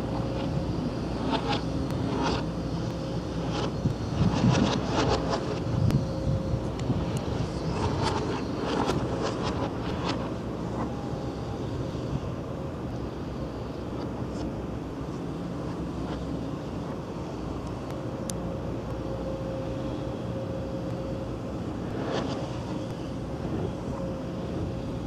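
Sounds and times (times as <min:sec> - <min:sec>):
distant engine rumble: 0:00.0 - 0:25.0
faint steady hum: 0:00.0 - 0:25.0.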